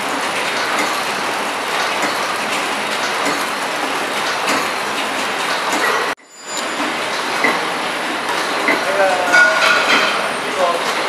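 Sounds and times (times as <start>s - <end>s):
wrapping machine clattering: 0.0s - 11.0s.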